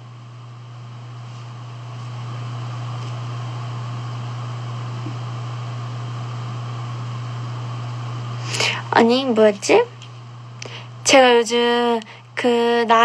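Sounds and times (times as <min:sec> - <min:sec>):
low ventilation hum with hiss: 0:00.0 - 0:13.0.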